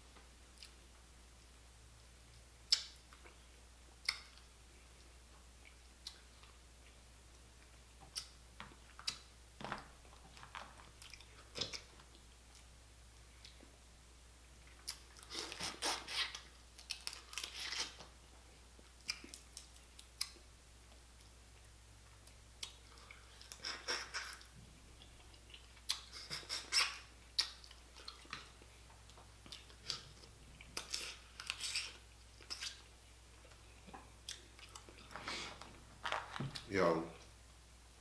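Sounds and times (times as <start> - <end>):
sucking and chewing: 2.6 - 9.3, 10.0 - 13.7, 14.5 - 18.2, 18.8 - 35.8.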